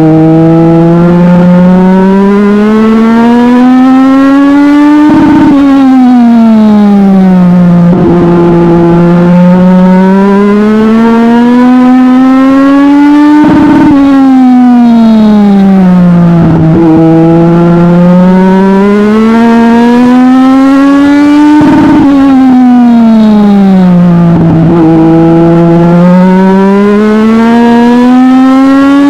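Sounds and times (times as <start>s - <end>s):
exhaust crackle: 0.0s - 29.0s
race car engine at speed: 0.0s - 29.0s.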